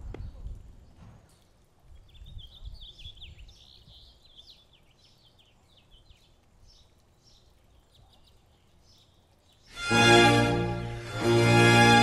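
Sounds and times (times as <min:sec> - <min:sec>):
small birds chirping: 0:00.1 - 0:09.9.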